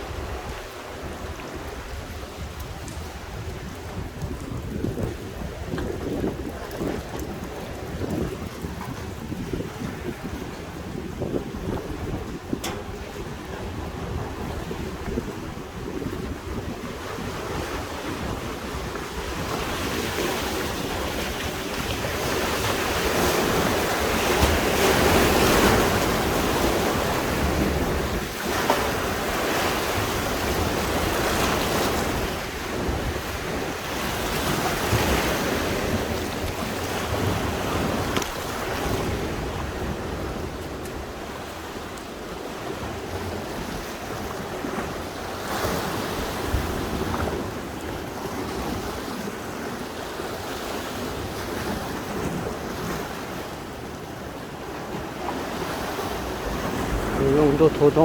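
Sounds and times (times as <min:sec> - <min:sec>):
sea waves washing on shore: 0:00.0 - 0:58.0
wind buffeting microphone: 0:00.0 - 0:58.0.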